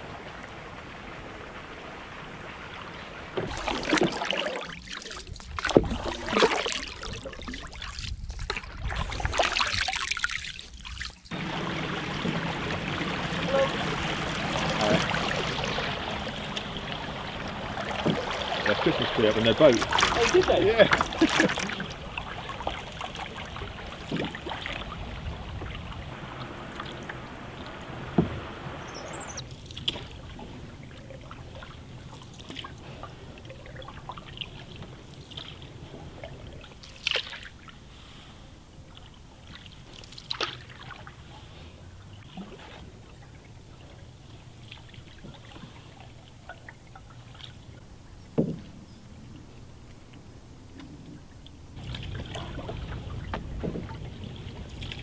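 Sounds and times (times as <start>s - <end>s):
paddle strokes in water: 0.0s - 55.0s
water washing along hull: 0.0s - 55.0s.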